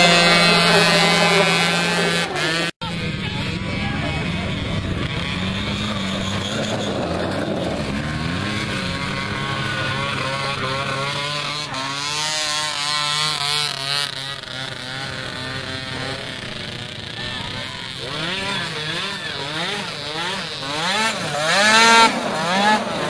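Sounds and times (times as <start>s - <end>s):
mini quad engines revving: 0.0s - 23.0s.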